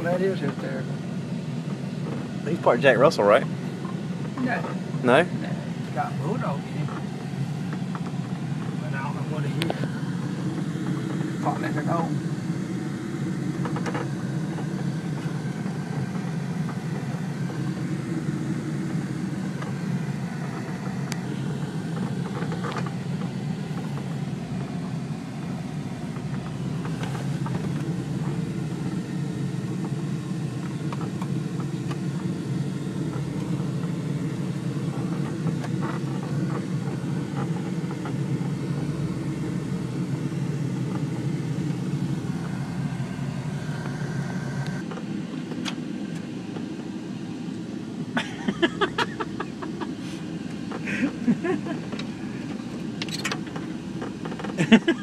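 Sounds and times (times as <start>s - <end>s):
truck engine and tyre rumble: 0.0s - 55.0s.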